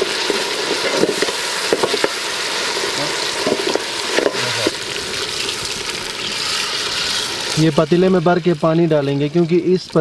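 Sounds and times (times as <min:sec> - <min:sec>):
onions sizzling in pot: 0:00.0 - 0:10.0.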